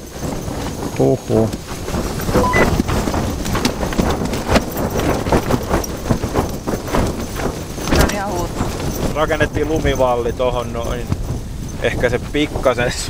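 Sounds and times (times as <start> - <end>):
tent fabric flapping: 0.0 - 13.0
wind buffeting tent: 0.0 - 13.0.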